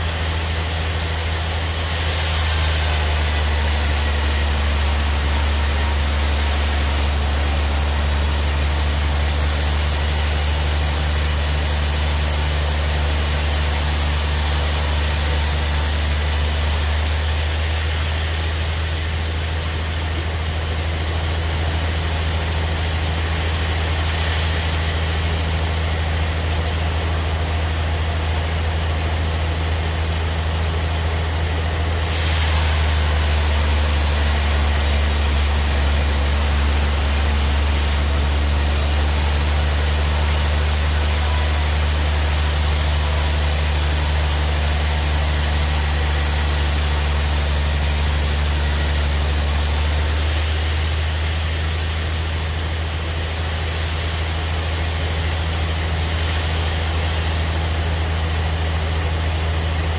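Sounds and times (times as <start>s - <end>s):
bandsaw running: 0.0s - 59.9s.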